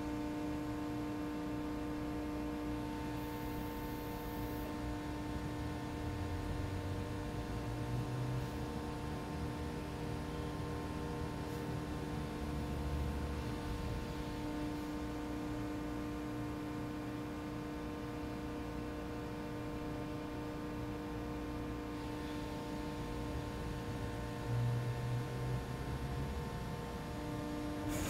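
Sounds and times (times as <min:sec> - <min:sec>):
machinery mechanical hum: 0:00.0 - 0:28.0.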